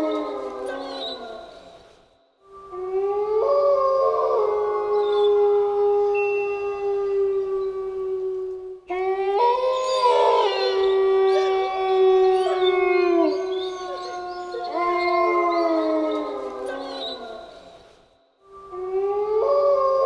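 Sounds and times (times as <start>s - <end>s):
wolves howling in chorus: 0.0s - 1.6s, 2.7s - 17.8s, 18.7s - 20.0s.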